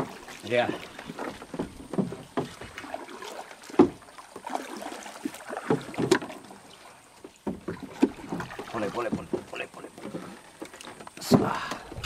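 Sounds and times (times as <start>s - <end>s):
knocks against boat: 0.0s - 3.0s, 3.6s - 4.2s, 5.2s - 6.6s, 7.2s - 12.0s
fish thrashing and splashing: 0.0s - 12.0s.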